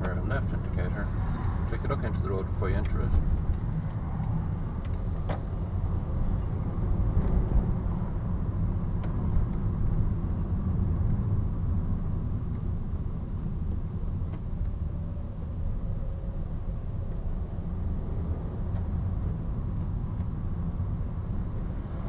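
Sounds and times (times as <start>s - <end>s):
car engine and tyres rumble: 0.0s - 22.0s.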